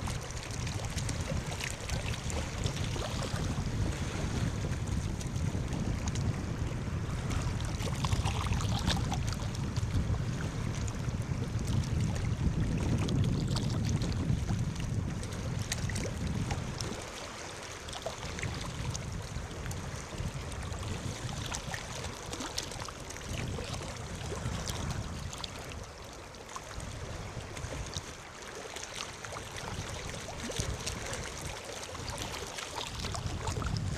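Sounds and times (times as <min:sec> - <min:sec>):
waves breaking on shore: 0:00.0 - 0:33.9.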